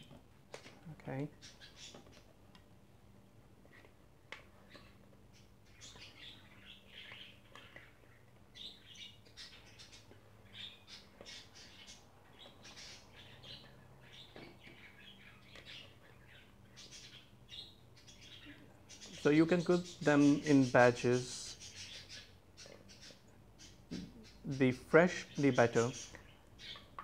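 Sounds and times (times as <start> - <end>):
faint bird chirping: 0.0 - 27.0.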